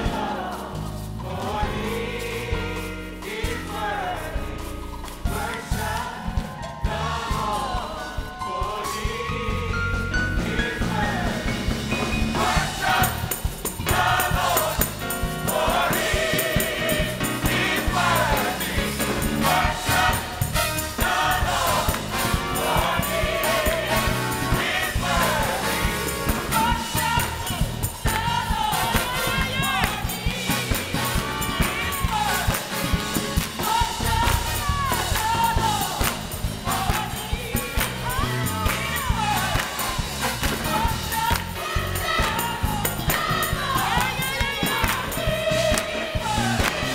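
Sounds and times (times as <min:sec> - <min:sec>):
gospel choir singing: 0:00.0 - 0:46.9
live band playing: 0:00.0 - 0:46.9.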